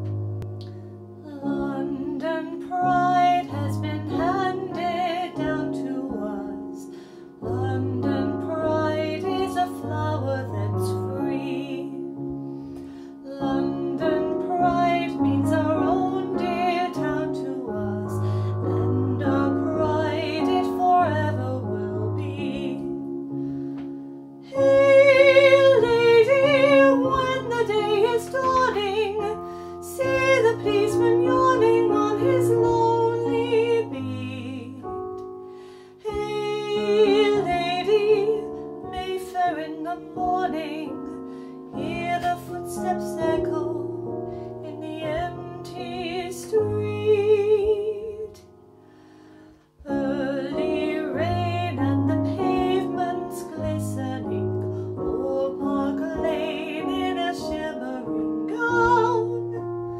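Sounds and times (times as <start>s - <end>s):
electric keyboard chords: 0.0s - 59.9s
woman singing: 1.2s - 23.4s, 24.4s - 35.3s, 35.9s - 48.5s, 49.8s - 59.8s.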